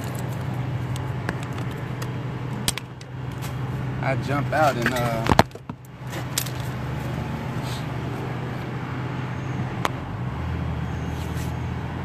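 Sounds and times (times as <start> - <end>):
motor vehicle humming: 0.0 - 12.0.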